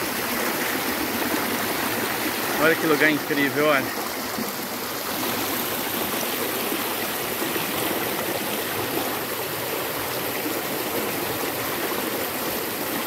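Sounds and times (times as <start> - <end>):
creek rushing over rocks: 0.0 - 13.0.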